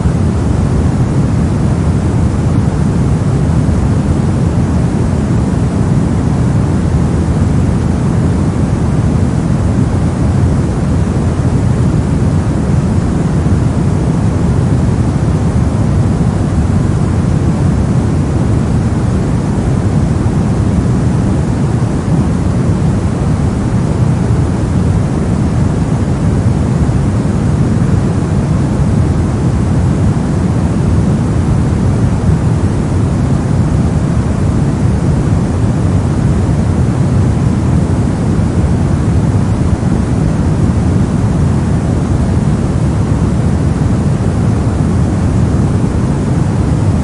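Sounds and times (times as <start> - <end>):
soft low white noise: 0.0 - 47.0.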